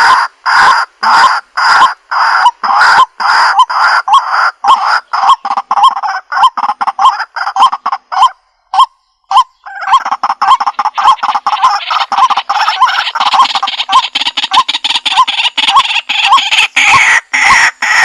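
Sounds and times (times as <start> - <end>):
waterhen croaking calls: 0.0 - 18.0.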